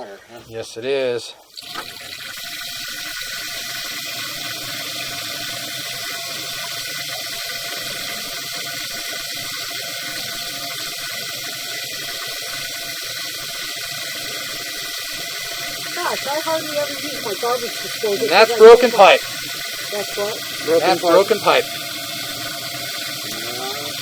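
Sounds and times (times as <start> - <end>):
water running from a faucet: 1.5 - 24.0.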